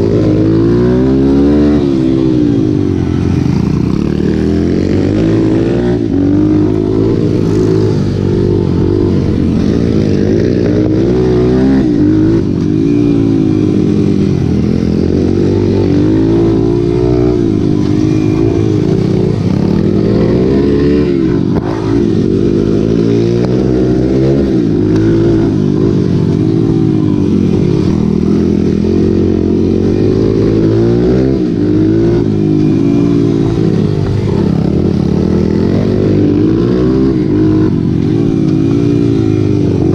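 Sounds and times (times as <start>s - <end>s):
racing motorcycle engines revving: 0.0s - 39.9s.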